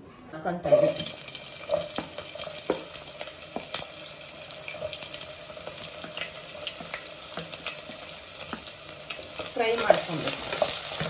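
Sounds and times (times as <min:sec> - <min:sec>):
onions sizzling in hot oil: 0:00.6 - 0:11.0.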